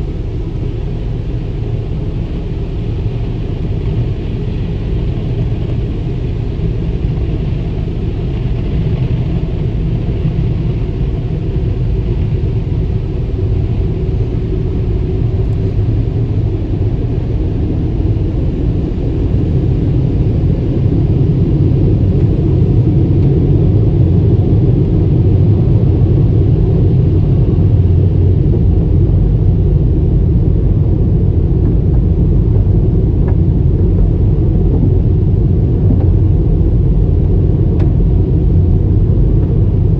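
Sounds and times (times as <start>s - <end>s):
car wash machinery rumbling: 0.0s - 39.9s.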